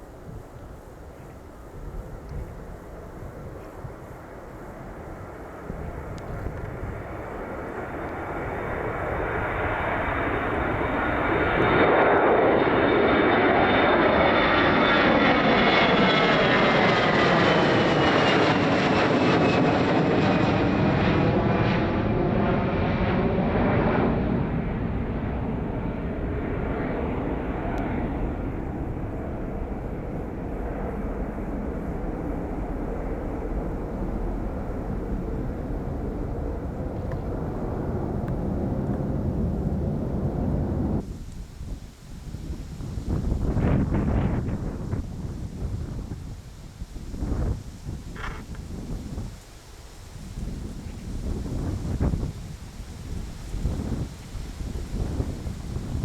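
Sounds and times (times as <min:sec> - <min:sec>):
airliner flying past: 0:00.0 - 0:56.0.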